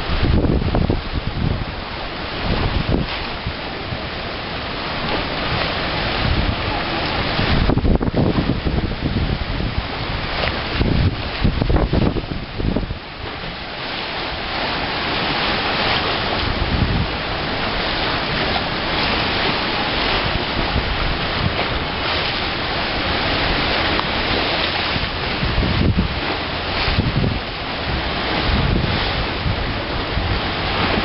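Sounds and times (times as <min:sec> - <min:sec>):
strong wind: 0:00.0 - 0:31.0
waves and surf roaring: 0:00.0 - 0:31.0
wind buffeting microphone: 0:00.0 - 0:31.0.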